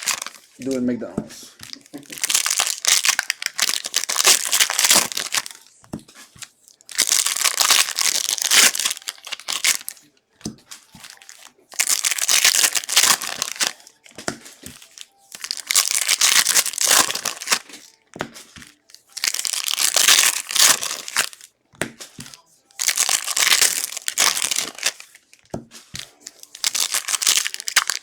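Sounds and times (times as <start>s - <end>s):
plastic wrappers crinkling and tearing: 0.0s - 28.0s.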